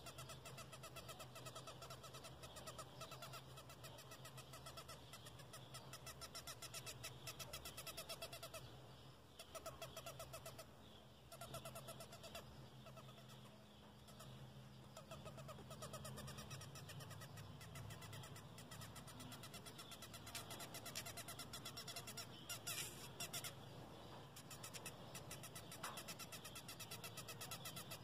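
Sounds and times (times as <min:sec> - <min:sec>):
rapid chirping pulses: 0:00.0 - 0:08.8, 0:09.4 - 0:28.0.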